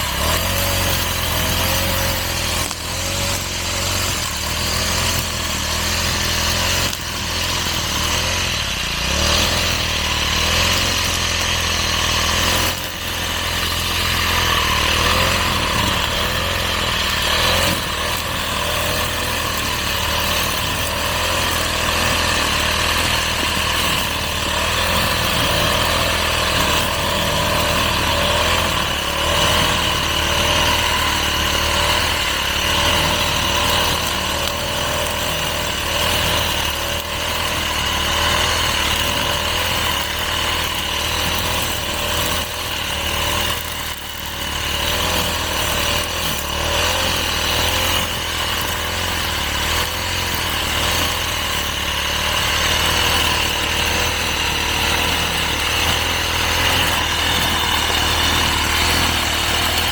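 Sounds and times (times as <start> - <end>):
grass cutter engine running: 0.0 - 59.9.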